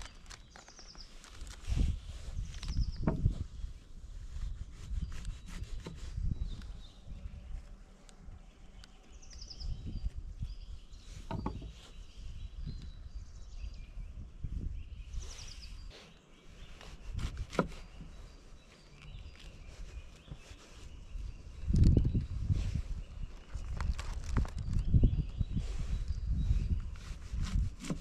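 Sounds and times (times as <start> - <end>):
birds singing: 0.0 - 28.0.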